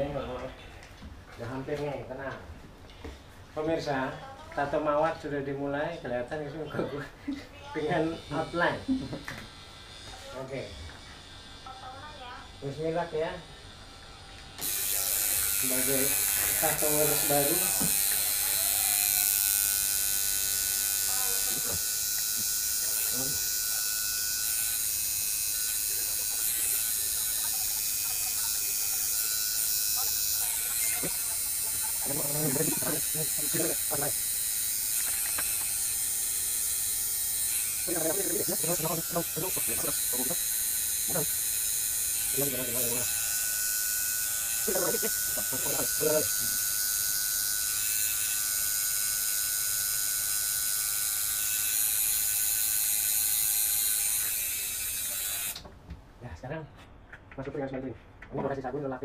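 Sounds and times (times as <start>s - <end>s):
tattoo machine buzzing: 7.7s - 55.6s.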